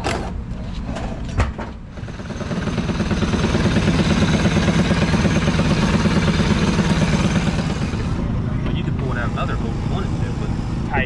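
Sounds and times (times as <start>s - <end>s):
go-kart engine idling: 2.0s - 11.0s.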